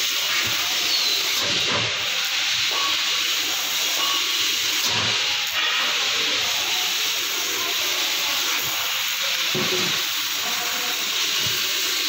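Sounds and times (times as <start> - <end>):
laser cutter gas hiss: 0.0 - 12.0.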